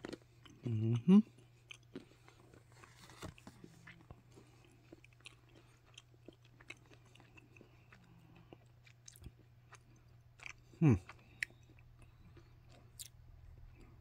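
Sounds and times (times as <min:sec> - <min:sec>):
chocolate crunching: 0:00.0 - 0:14.0.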